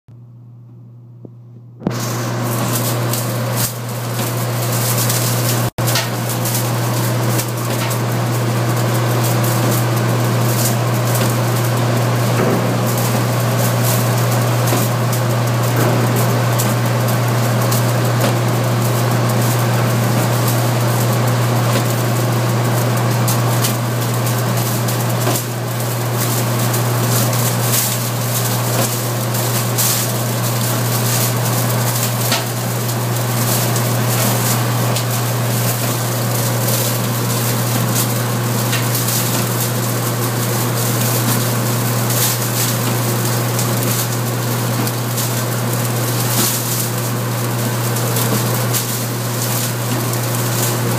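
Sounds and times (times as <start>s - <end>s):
shredder machine hum: 1.8s - 50.9s
straw ripping crackle: 1.8s - 50.9s.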